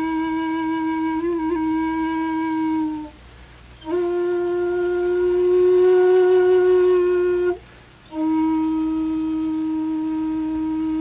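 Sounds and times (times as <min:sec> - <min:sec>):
wind instrument long held note: 0:00.0 - 0:11.0.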